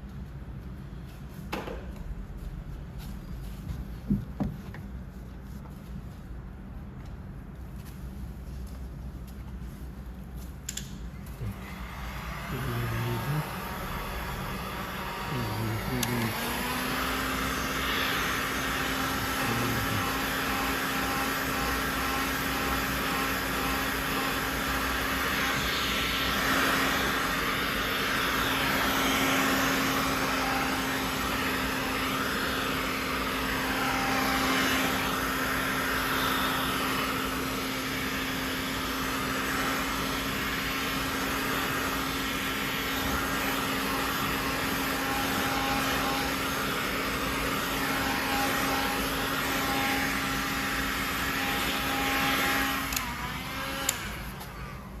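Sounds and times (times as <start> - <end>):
electric blower motor humming: 10.7 - 55.0.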